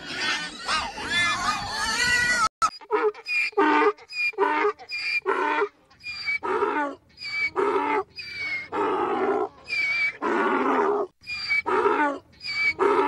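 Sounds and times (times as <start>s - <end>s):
donkey braying: 0.0s - 13.0s.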